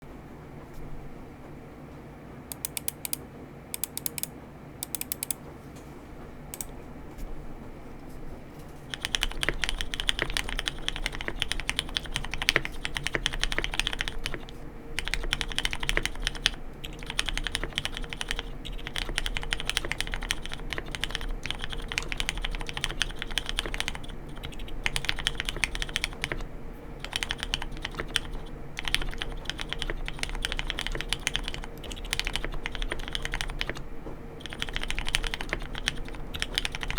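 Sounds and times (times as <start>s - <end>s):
mechanical keyboard typing: 2.5s - 3.2s, 3.8s - 5.4s, 6.6s - 6.8s, 8.9s - 36.9s.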